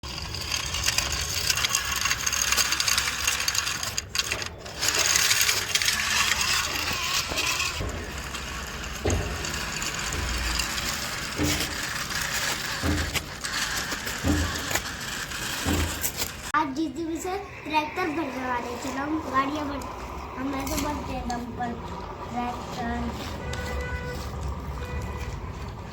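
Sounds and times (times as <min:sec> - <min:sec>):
plastic toy vehicles rattling: 0:00.0 - 0:25.9.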